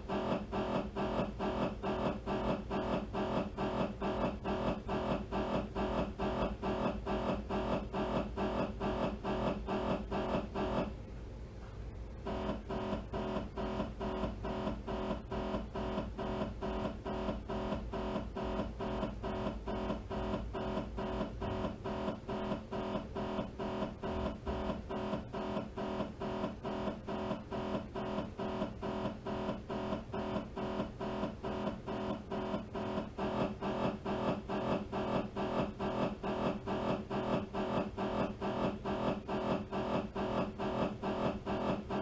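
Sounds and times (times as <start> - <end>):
mri gradient coils buzzing pulses: 0.0 - 11.0, 12.1 - 42.0.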